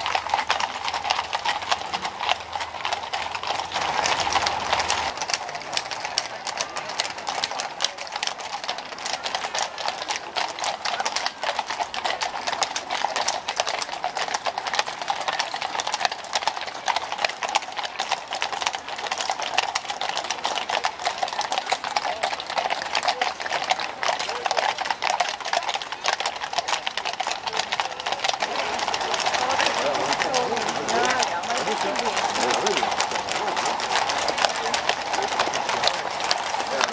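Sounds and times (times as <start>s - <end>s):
horse hooves clip-clopping on asphalt: 0.0s - 36.9s
onlookers talking: 0.0s - 36.9s.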